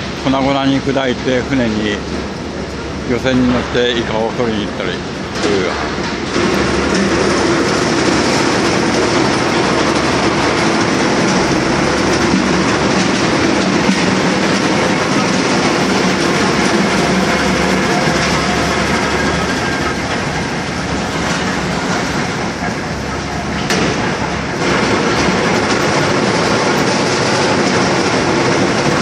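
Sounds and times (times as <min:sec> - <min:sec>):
ice crushing machinery rattling: 0:00.0 - 0:29.0
low machine hum: 0:00.0 - 0:29.0.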